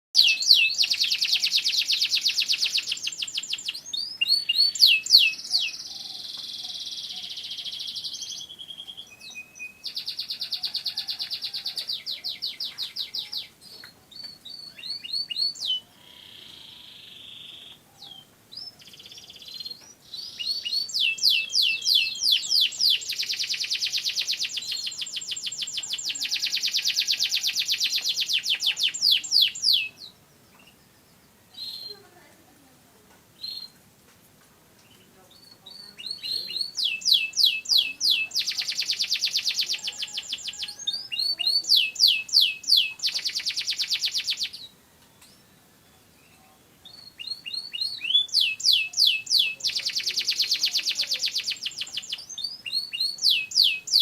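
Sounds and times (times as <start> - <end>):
canary singing trills: 0.2 - 32.3, 32.9 - 33.8, 34.8 - 54.0.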